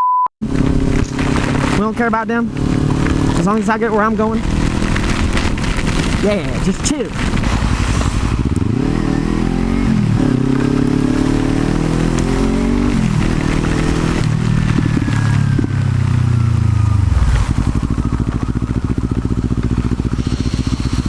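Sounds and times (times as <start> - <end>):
motorcycle engine accelerating: 0.4 - 21.0.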